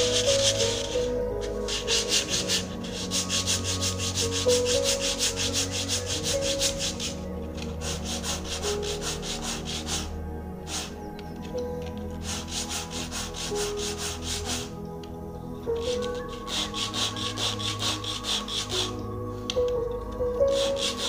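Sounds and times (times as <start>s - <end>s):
wood block rasping on sanding disc: 0.0s - 11.0s, 12.2s - 14.7s, 15.8s - 19.0s, 20.4s - 21.0s.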